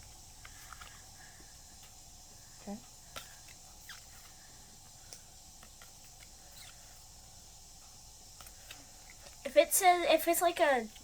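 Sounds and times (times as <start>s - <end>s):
steady quiet hiss: 0.0s - 11.0s.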